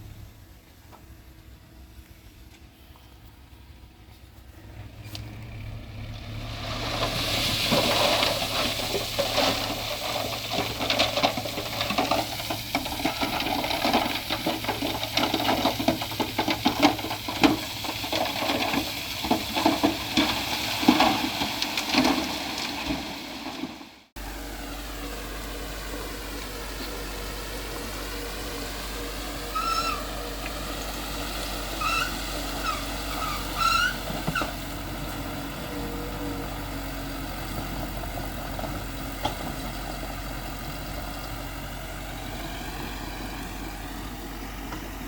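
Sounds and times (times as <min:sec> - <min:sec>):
heavy machine engine hum: 0:00.0 - 0:23.6, 0:24.2 - 0:45.0
soil and rock tumbling: 0:04.1 - 0:24.2, 0:25.1 - 0:45.0.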